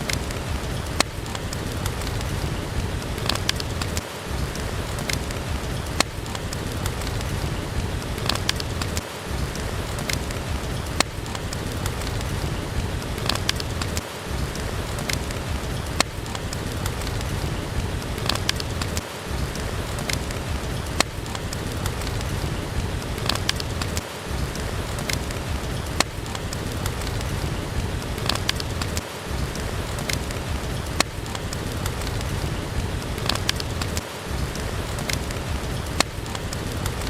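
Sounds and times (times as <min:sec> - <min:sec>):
sharp pops and clicks: 0:00.0 - 0:37.0
steady rain: 0:00.0 - 0:37.0.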